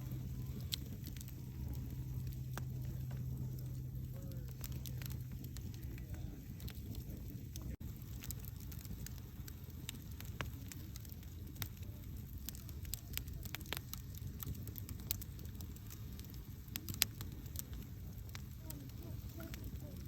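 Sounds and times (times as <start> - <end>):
fire crackles and pops: 0.0 - 20.0
low rumble of flames: 0.0 - 20.0.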